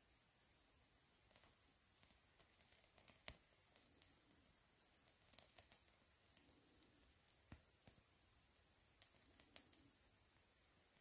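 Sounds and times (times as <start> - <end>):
faint high hiss: 0.0 - 11.0
tinder crackling: 0.2 - 11.0.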